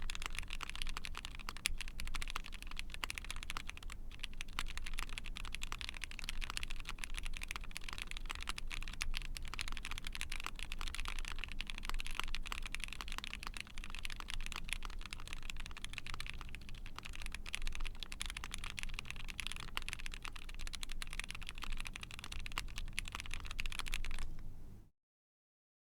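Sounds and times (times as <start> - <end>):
typing on mechanical keyboard: 0.0 - 24.4.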